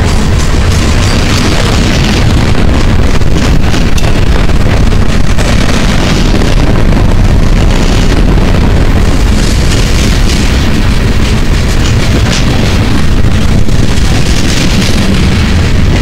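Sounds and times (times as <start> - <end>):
train wheels rumbling on rail: 0.0 - 16.0
wind buffeting microphone: 0.0 - 16.0.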